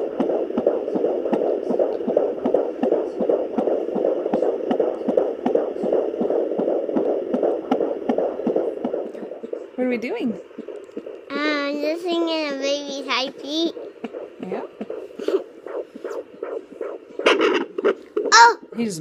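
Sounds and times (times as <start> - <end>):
fast pulsing heartbeat: 0.0 - 19.0.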